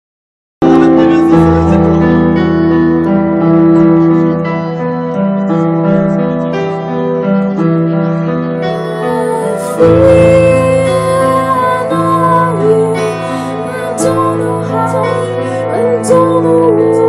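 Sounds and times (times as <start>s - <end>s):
keyboard piano chords: 0.6s - 17.0s.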